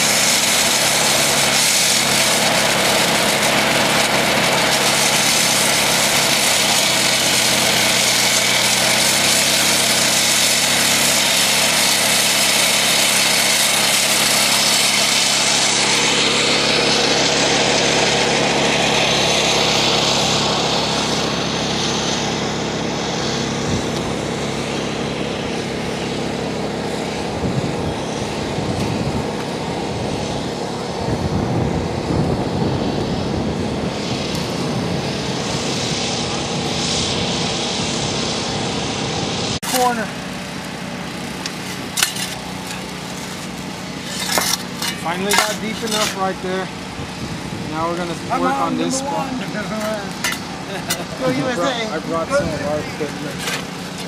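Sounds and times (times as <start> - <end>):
saw blade hissing: 0.0 - 27.3, 33.9 - 54.0
saw engine running: 0.0 - 54.0.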